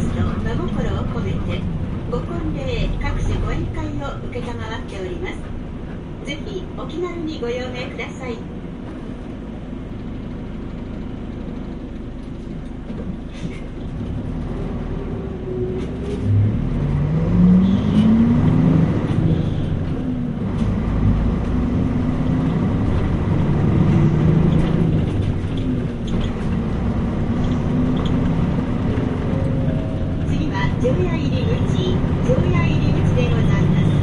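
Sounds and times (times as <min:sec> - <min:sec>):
bus diesel engine revving: 0:00.0 - 0:34.0.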